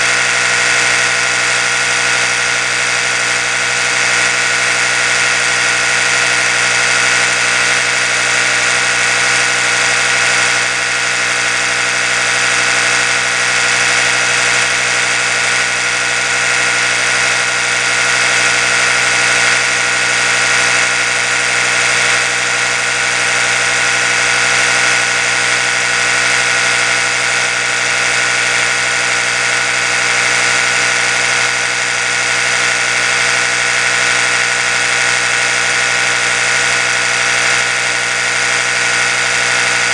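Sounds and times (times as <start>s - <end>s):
electric toothbrush humming: 0.0s - 39.9s.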